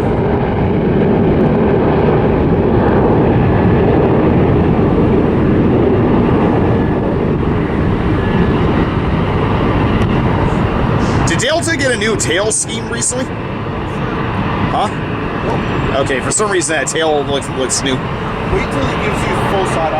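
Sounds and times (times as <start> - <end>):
jet engines at takeoff: 0.0 - 19.9.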